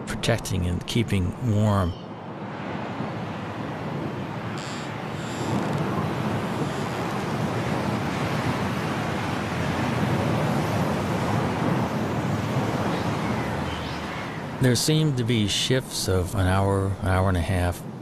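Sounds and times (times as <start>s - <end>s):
strong wind rumble: 0.0s - 18.0s.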